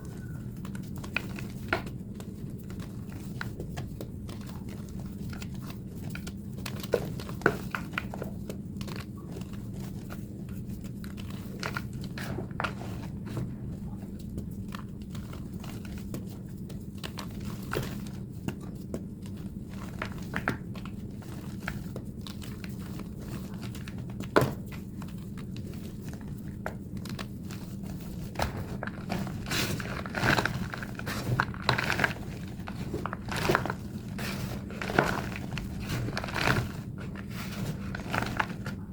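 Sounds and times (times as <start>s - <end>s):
chalk being crushed by hand: 0.0s - 38.9s
crunching and crumbling cracks: 0.0s - 38.9s.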